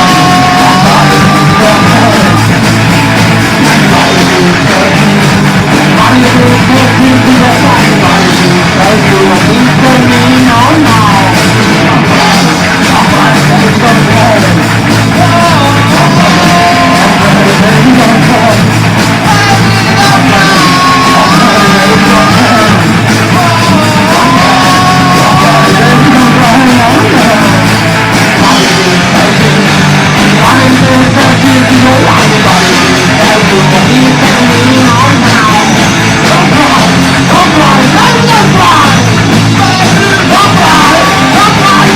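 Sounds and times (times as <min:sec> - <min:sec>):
punk rock band playing: 0:00.0 - 0:41.9.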